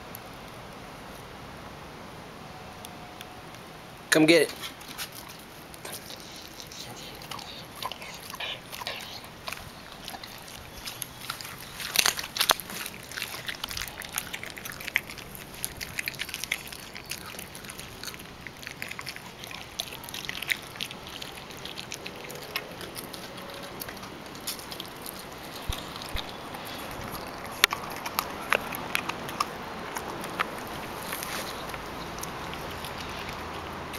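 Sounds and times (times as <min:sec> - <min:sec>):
dog chewing bone: 0:04.6 - 0:33.9.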